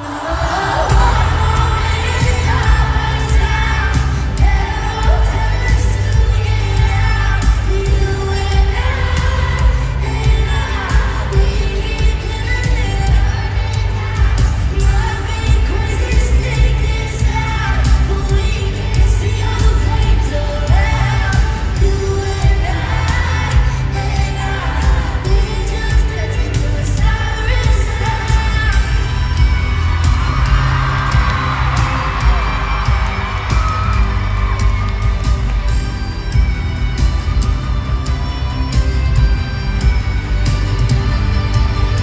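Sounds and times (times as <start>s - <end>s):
loud band with heavy bass: 0.0s - 42.0s
singer's voice: 0.0s - 42.0s
steady drum beat: 0.0s - 42.0s.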